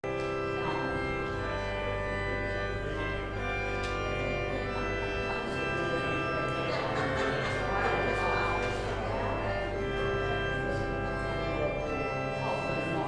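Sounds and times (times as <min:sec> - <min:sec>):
organ playing slow chords: 0:00.0 - 0:13.0.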